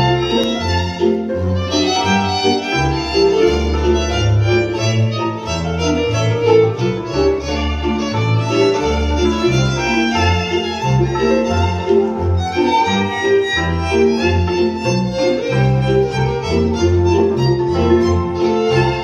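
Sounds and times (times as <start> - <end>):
fiddle playing folk dance music: 0.0 - 19.0.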